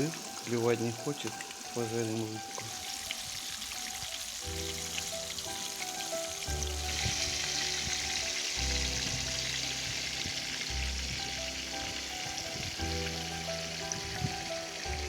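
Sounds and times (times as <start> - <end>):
background music: 0.0 - 15.0
fish sizzling in frying: 0.0 - 15.0.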